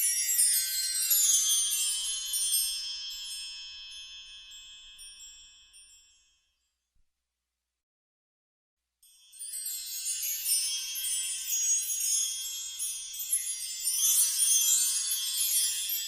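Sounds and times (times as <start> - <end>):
magic sparkle chimes: 0.0 - 6.2, 9.0 - 16.0.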